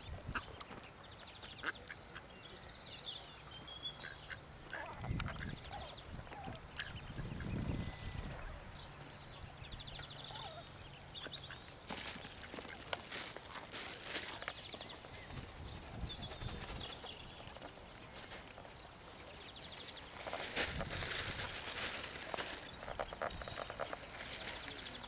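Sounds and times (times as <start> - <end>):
ducklings peeping: 0.1 - 25.0.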